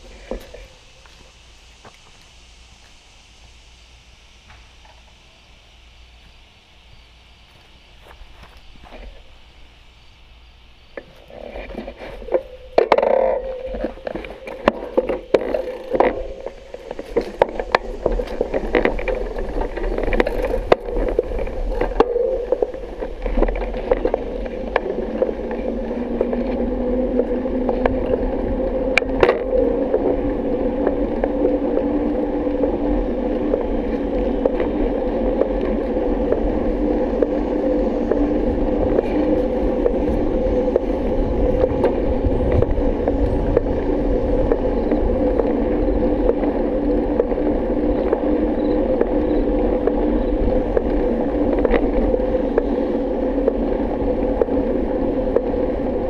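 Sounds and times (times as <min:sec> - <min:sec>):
bicycle rolling on pavement: 0:00.0 - 0:56.0.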